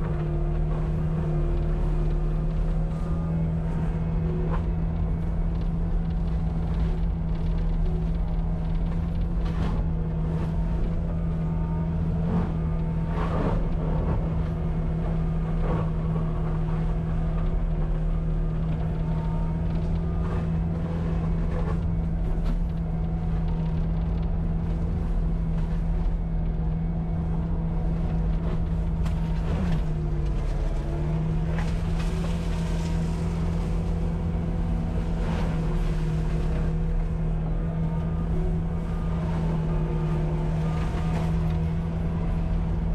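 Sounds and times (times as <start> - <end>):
track loader engine running: 0.0 - 42.9.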